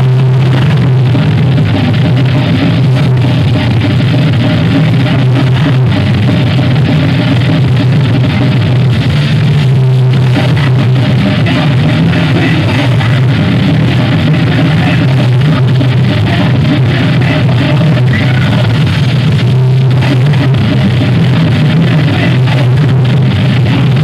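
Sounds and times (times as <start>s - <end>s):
bass guitar: 0.0s - 24.0s
distorted electric guitar: 0.0s - 24.0s
drum kit: 0.0s - 24.0s.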